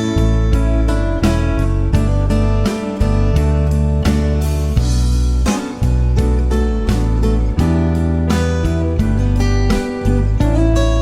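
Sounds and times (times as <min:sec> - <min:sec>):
low bass notes: 0:00.0 - 0:11.0
strummed acoustic guitar: 0:00.0 - 0:11.0.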